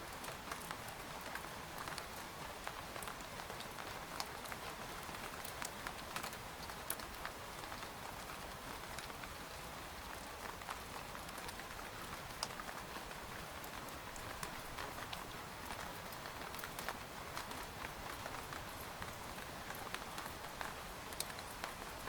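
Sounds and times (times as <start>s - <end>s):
rain hissing on a tent: 0.0s - 22.0s.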